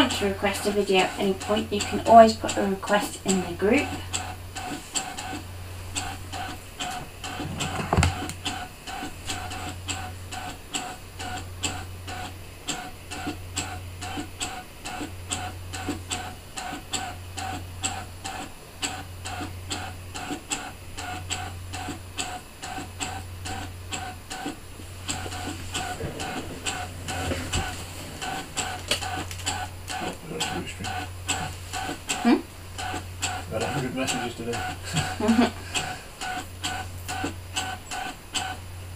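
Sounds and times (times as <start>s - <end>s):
cutting machine ticking: 0.0s - 38.7s
low motor hum: 0.0s - 38.9s.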